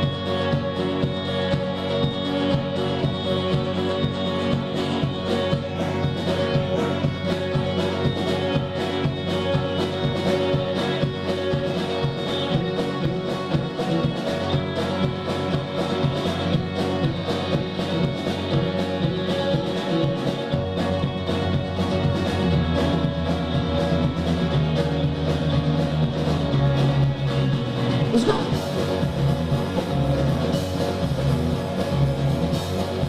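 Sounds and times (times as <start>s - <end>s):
live band playing: 0.0s - 33.0s.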